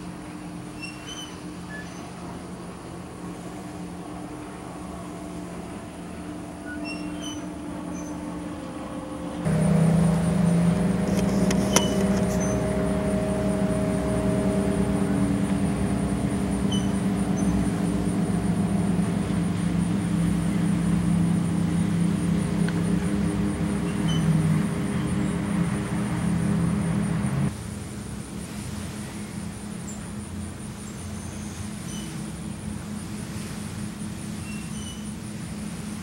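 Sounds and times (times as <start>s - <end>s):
motorboat engines droning: 0.0s - 36.0s.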